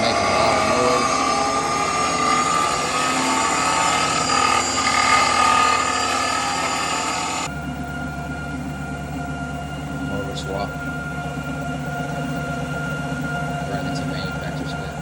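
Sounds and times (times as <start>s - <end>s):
mechanical whir: 0.0s - 15.0s
treadmill motor whine: 0.0s - 15.0s.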